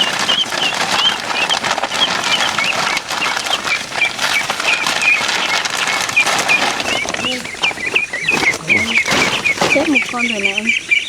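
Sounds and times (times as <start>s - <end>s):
rustling and scuffling: 0.0s - 10.9s
ducklings peeping: 0.0s - 11.0s.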